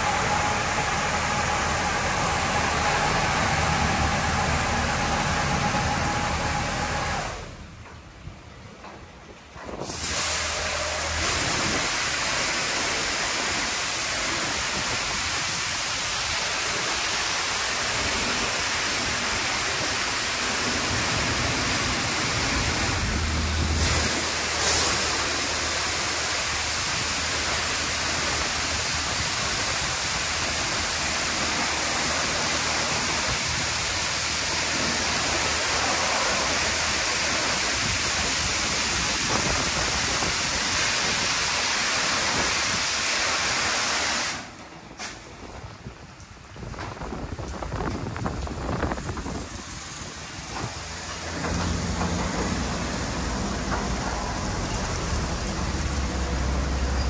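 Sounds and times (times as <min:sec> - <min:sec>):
high-pressure water spray hissing: 0:00.0 - 0:07.7, 0:09.8 - 0:44.6, 0:48.5 - 0:57.0.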